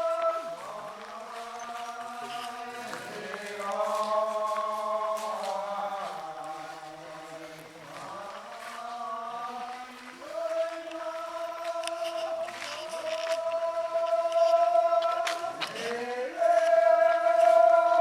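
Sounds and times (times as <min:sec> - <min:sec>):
men singing in unison: 0:00.0 - 0:18.0.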